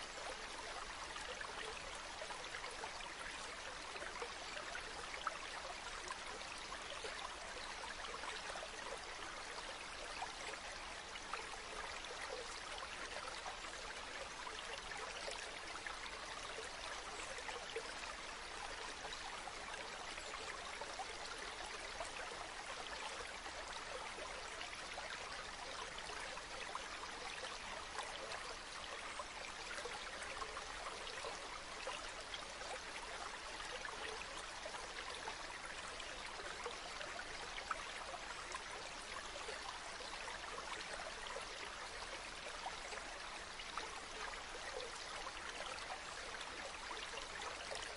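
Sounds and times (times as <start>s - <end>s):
fountain water trickling and splashing: 0.0s - 47.9s.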